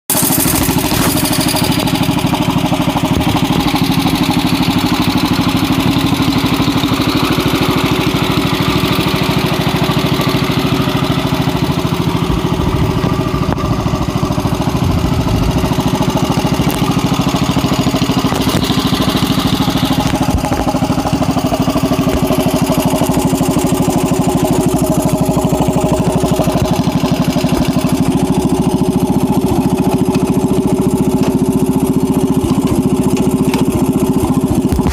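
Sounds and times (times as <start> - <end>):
garden tractor engine running: 0.1 - 34.9.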